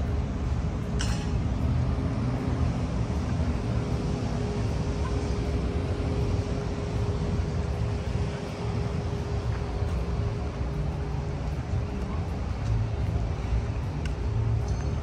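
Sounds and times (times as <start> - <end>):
faint steady hum: 0.0 - 15.0
low vehicle rumble: 0.0 - 15.0.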